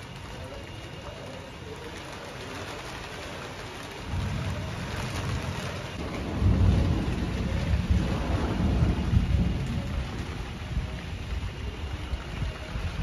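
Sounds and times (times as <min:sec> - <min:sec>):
steady rain falling: 0:00.0 - 0:13.0
thunder rumbling: 0:00.0 - 0:13.0.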